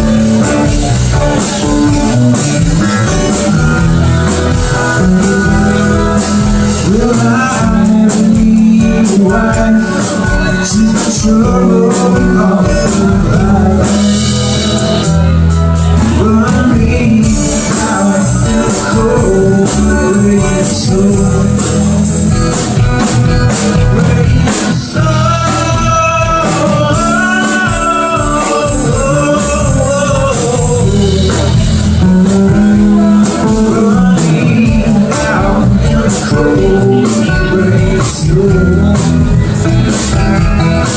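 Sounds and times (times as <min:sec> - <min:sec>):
live rock band playing: 0:00.0 - 0:40.9
melodic lead guitar lines: 0:00.0 - 0:40.9.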